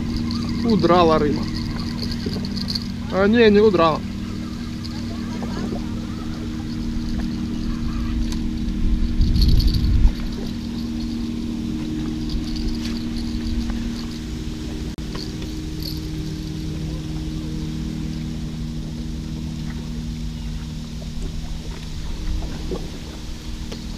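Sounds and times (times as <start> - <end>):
heavy low rumble: 0.0 - 23.9
insects chirping: 0.0 - 23.9
low engine drone: 0.0 - 23.9.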